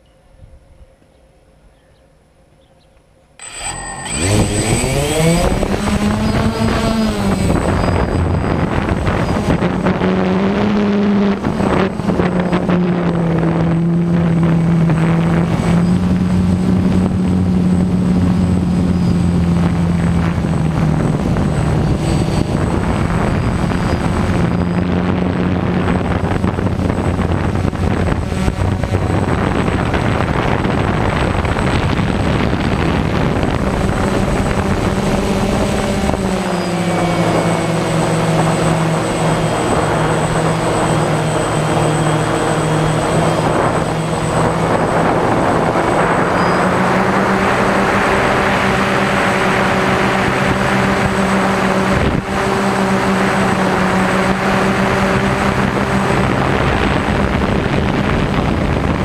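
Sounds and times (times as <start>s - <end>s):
drone propellers humming: 3.4s - 59.0s.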